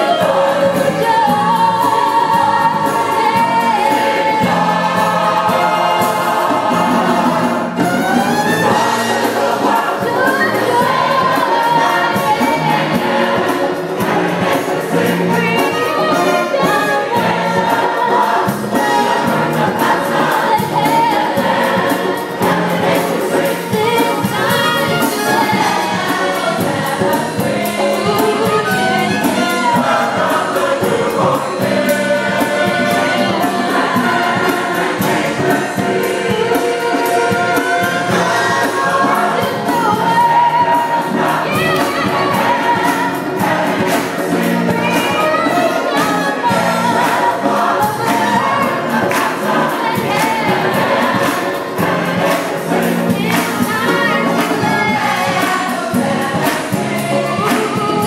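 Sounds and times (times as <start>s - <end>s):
church choir singing: 0.0s - 58.0s
instrumental accompaniment: 0.0s - 58.0s.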